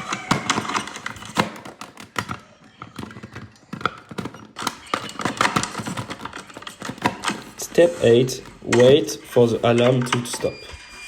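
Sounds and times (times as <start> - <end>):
plastic clicks and knocks: 0.0 - 10.8.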